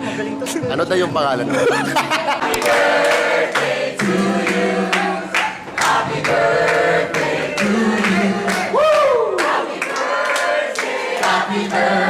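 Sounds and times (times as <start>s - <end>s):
group singing held notes: 2.3s - 12.0s.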